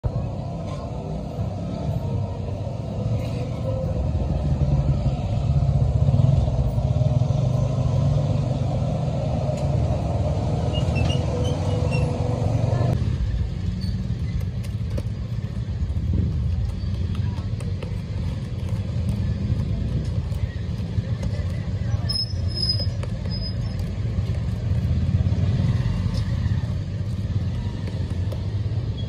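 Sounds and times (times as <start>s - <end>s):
motor traffic rumble: 0.0s - 29.0s
motorcycles: 0.0s - 29.0s.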